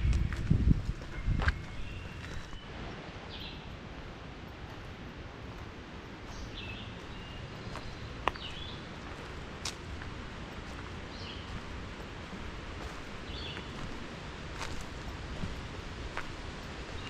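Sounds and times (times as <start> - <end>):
woodland background rush: 0.0 - 17.0.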